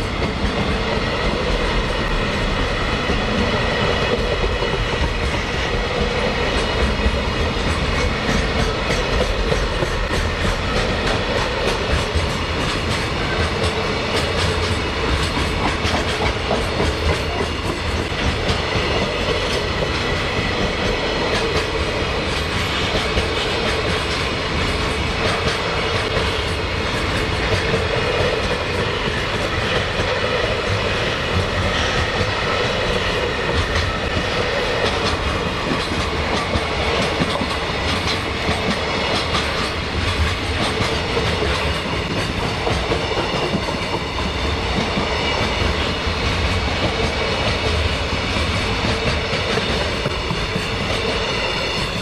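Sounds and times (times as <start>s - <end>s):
freight train rolling past: 0.0s - 52.0s
wheels clacking over rail joints: 0.0s - 52.0s.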